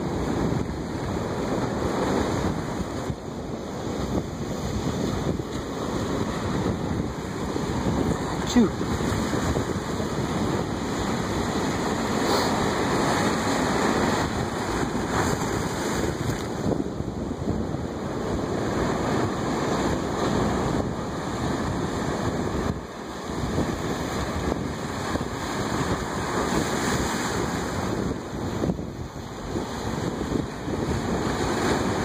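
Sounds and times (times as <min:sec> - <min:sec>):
surf washing over rocks: 0:00.0 - 0:32.0
wind buffeting microphone: 0:00.0 - 0:32.0.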